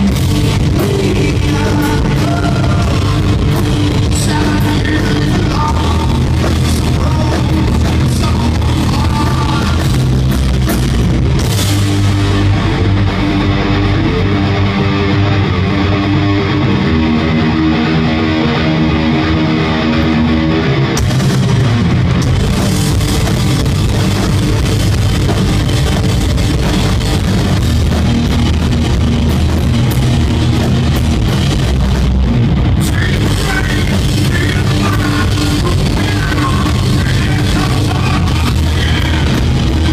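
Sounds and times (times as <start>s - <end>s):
live heavy rock band: 0.0s - 39.9s
sustained guitar and bass notes: 0.0s - 39.9s.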